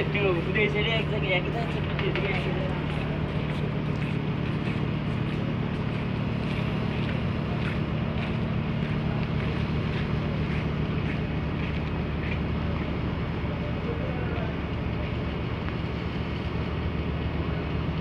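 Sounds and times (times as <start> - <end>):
ship engine humming: 0.0 - 18.0.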